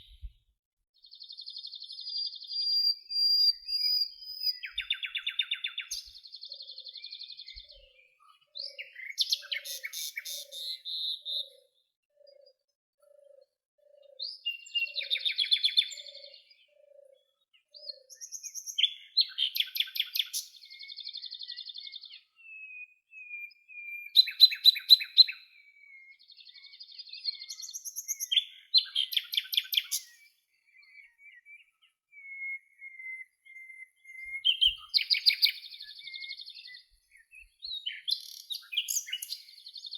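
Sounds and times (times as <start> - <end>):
songbirds chirping trills: 1.0 - 39.9
thin drawn-out bird whistles: 1.4 - 39.9.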